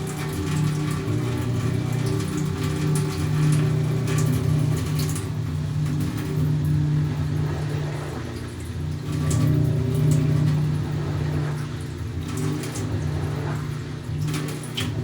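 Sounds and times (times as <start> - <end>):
washing machine motor hum: 0.0 - 15.0
water sloshing in drum: 0.0 - 15.0.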